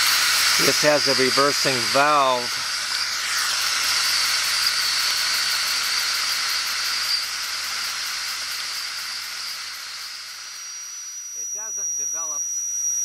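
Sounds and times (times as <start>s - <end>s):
model steam engine running: 0.0s - 12.0s
steam hissing: 0.0s - 12.4s.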